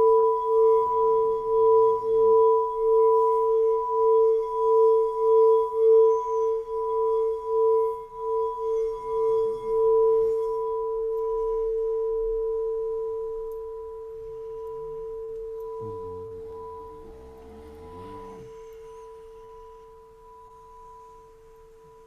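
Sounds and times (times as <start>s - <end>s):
faint low sound: 0.0s - 22.0s
singing bowl ringing: 0.0s - 22.0s.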